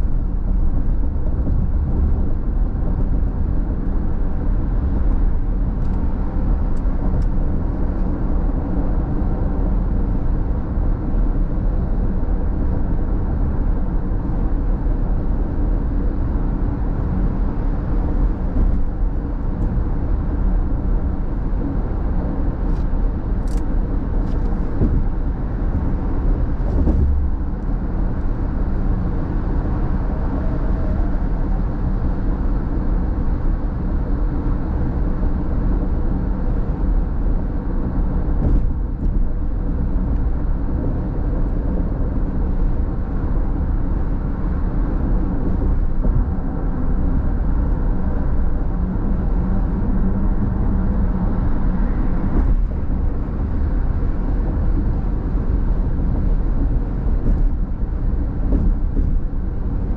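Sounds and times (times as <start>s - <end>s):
car cruising rumble: 0.0s - 59.9s.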